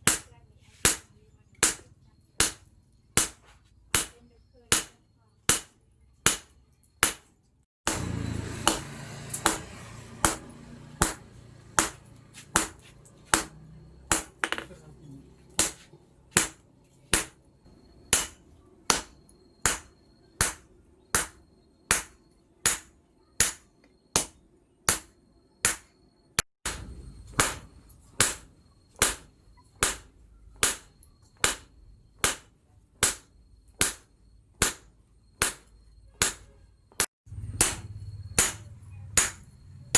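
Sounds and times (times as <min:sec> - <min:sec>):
hammer striking steel on anvil: 0:00.0 - 0:07.3, 0:07.9 - 0:14.9, 0:15.6 - 0:26.0, 0:26.7 - 0:39.9.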